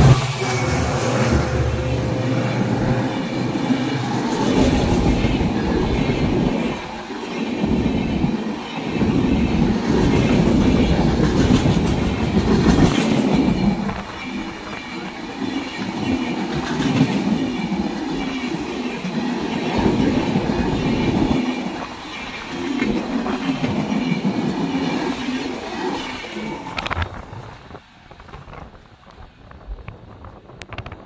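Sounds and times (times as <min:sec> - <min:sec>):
train wheels clattering on track: 0:00.0 - 0:27.3.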